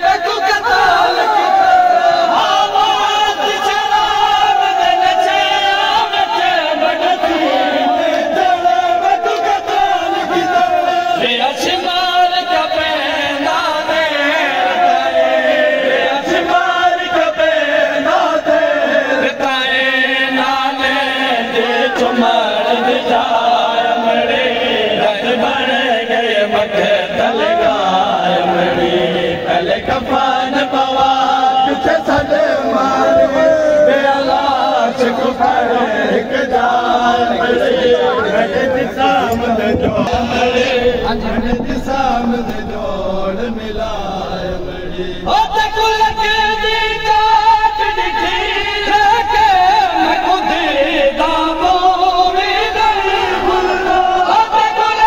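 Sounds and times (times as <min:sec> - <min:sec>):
crowd of men chanting: 0:00.0 - 0:55.0.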